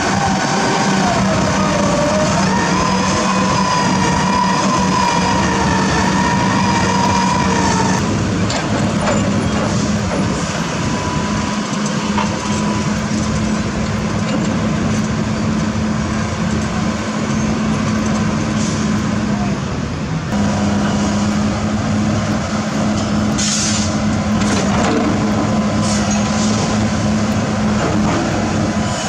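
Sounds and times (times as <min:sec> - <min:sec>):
high whine: 0:00.0 - 0:19.6, 0:20.2 - 0:29.0
heavy diesel machinery running: 0:00.0 - 0:29.0.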